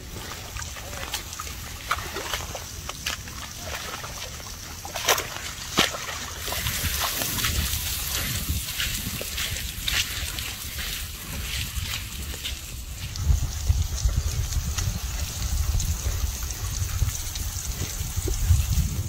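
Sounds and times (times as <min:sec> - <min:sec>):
mud sloshing and squelching: 0:00.0 - 0:19.0
mud splashes and slaps: 0:00.0 - 0:19.0.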